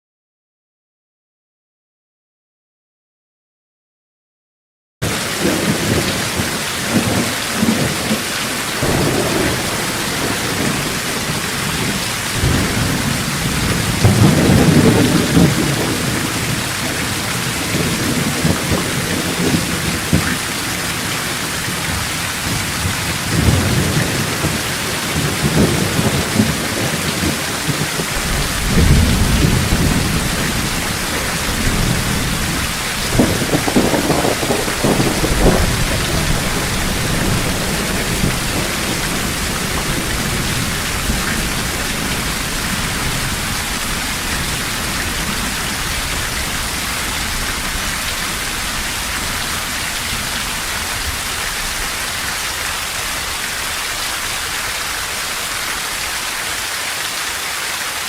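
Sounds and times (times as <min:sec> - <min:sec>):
heavy rain: 0:05.0 - 0:58.0
low rolling thunder: 0:05.4 - 0:55.2.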